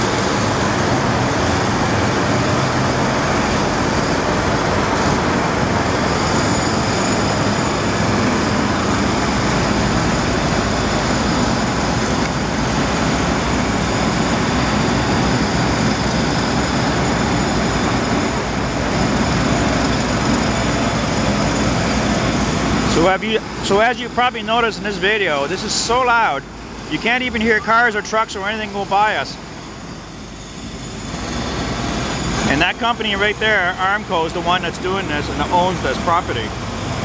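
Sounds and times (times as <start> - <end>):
construction machinery noise: 0.0 - 37.0
high whine: 0.0 - 37.0.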